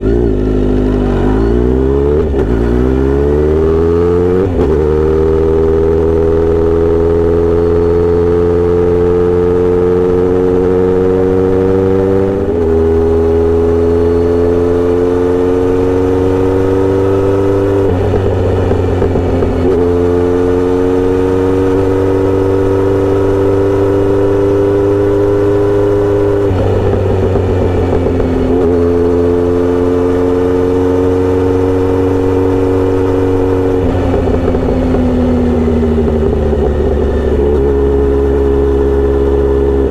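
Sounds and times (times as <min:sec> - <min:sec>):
motorcycle exhaust revving through gears: 0:00.0 - 0:39.9.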